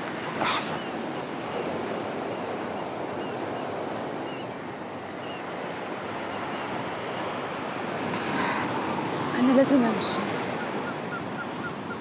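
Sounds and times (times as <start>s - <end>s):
waves washing: 0.0s - 12.0s
wind: 0.0s - 12.0s.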